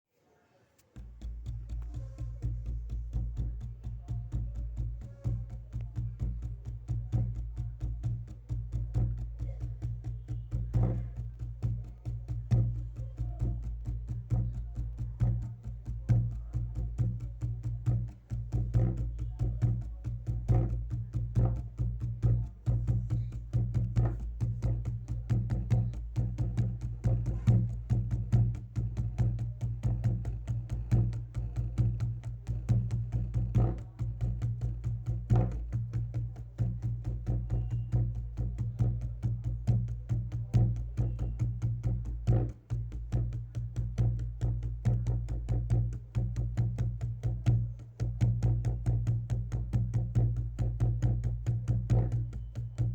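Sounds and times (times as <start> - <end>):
wooden percussion taps: 0.8 - 52.9
steady low hum: 1.0 - 52.9.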